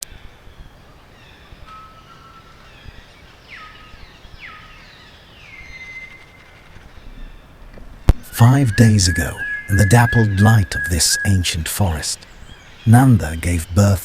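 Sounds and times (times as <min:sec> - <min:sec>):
faint steady hiss: 0:00.0 - 0:14.0
birds whistling: 0:00.2 - 0:14.0.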